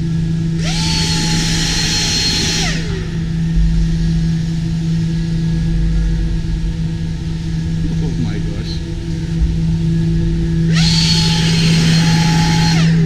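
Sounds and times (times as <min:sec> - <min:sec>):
electric fan whooshing whine: 0:00.0 - 0:13.0
low mechanical hum: 0:00.0 - 0:13.0.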